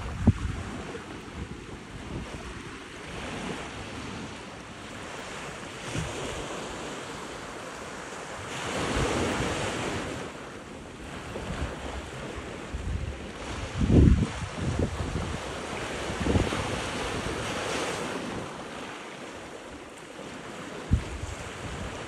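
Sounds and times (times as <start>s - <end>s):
wind buffeting microphone: 0.0s - 18.9s, 19.7s - 22.0s
surf washing onto shore: 0.0s - 22.0s.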